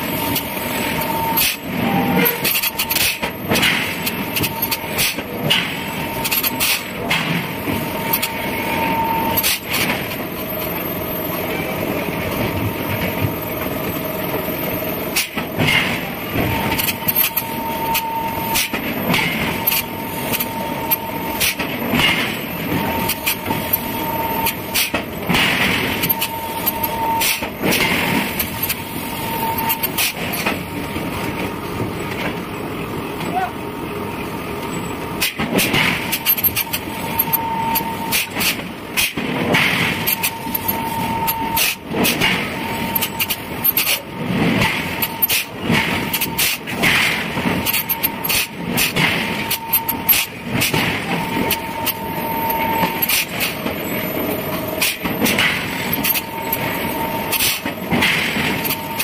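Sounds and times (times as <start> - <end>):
forge machinery running: 0.0 - 59.0.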